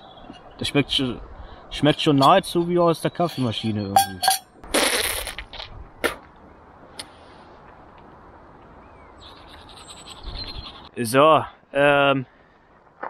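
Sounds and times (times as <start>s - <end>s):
outdoor background: 0.0s - 13.0s.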